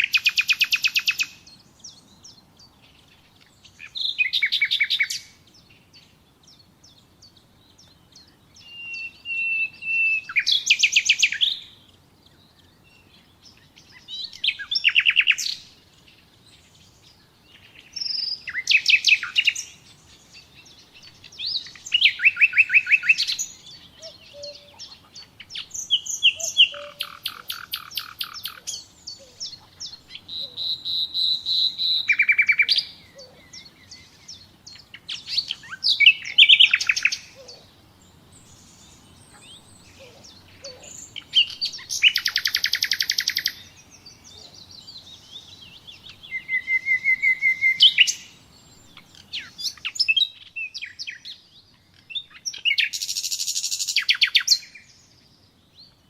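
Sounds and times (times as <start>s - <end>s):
nightingale singing trills: 0.0s - 56.0s.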